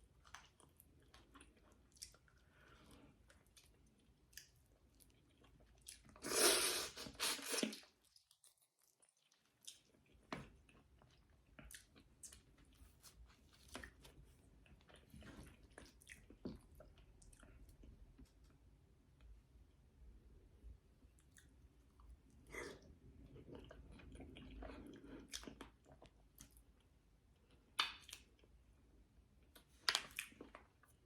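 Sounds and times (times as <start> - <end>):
chewing with wet smacks: 0.0 - 6.2, 7.6 - 18.7, 21.1 - 28.6, 29.4 - 31.0.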